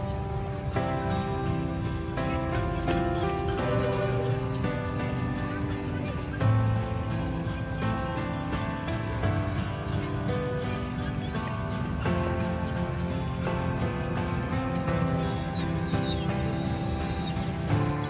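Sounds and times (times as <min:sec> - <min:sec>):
high-pitched insect trill: 0:00.0 - 0:18.0
soft background music: 0:00.0 - 0:18.0.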